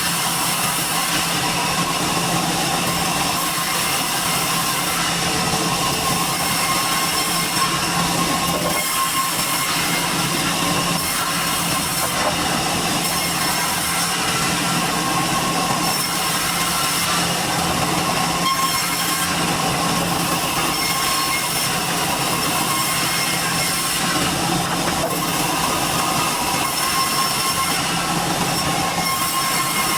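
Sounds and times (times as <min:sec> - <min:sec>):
sawmill saw cutting wood: 0:00.0 - 0:29.9.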